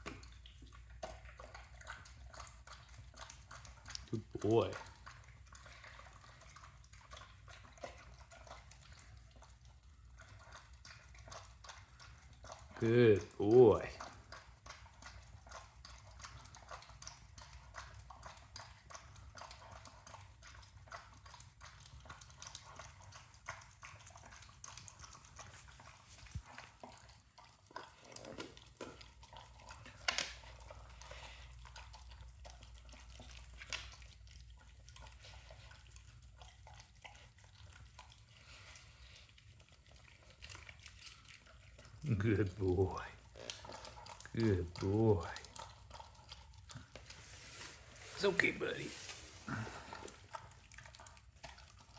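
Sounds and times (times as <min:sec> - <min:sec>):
dog chewing and licking: 0:00.0 - 0:51.9.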